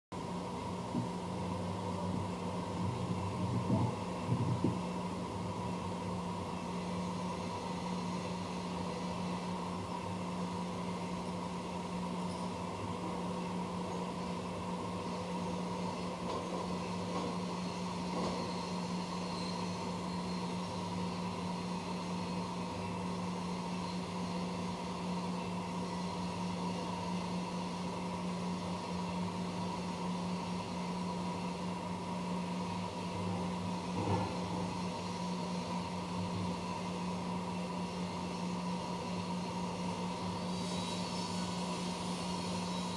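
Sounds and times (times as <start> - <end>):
machine running with mechanical hum: 0.2 - 42.9.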